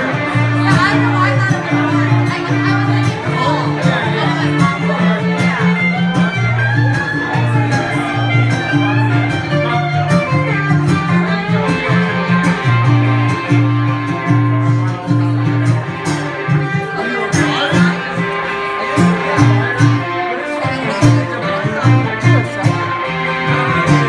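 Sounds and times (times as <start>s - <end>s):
acoustic guitar playing: 0.0s - 24.0s
electric guitar playing: 0.0s - 24.0s.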